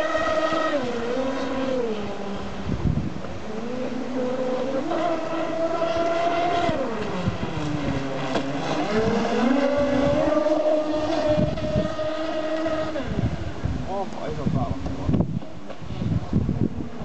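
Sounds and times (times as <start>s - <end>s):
rc speedboat motors whining: 0.0s - 17.0s.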